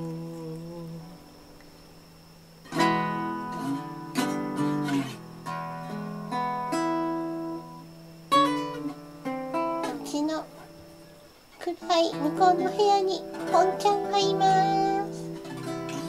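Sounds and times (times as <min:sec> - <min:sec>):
guitar chords and plucked notes: 0:00.0 - 0:16.0.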